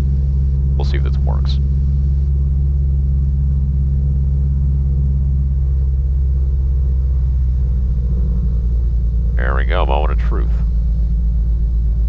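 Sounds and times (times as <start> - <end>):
piston aircraft engine running: 0.0 - 12.0.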